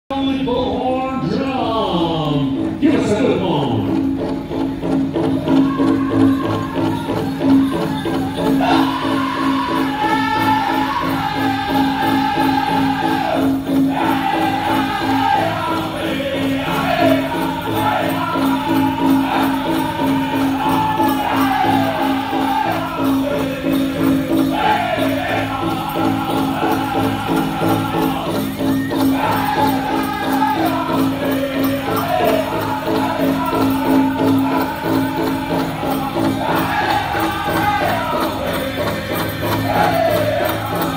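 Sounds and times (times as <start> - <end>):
bells jingling: 1.7 - 40.9
big drum beat: 2.4 - 40.9
group singing: 5.4 - 40.9.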